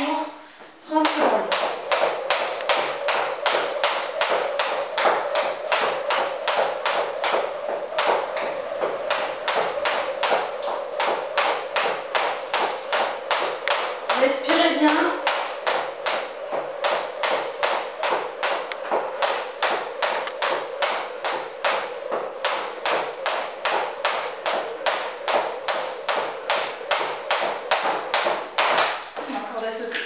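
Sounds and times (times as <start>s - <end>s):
jump rope tapping wooden floor: 0.9s - 29.3s.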